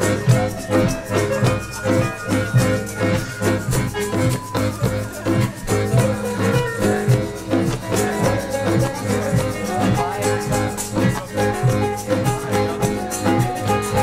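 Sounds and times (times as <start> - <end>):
band playing music: 0.0 - 14.0
guitar: 0.0 - 14.0
shaker: 0.0 - 14.0.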